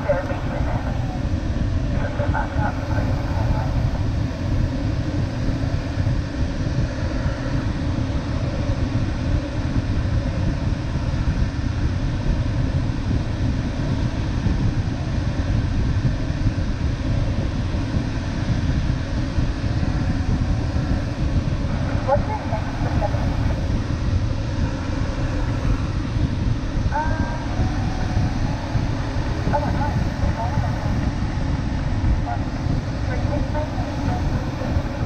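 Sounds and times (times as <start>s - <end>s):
air rushing over glider canopy: 0.0s - 35.0s.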